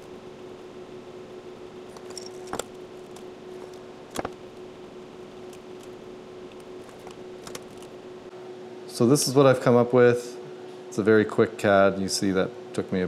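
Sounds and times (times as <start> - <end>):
room hum with faint tone: 0.0 - 13.0.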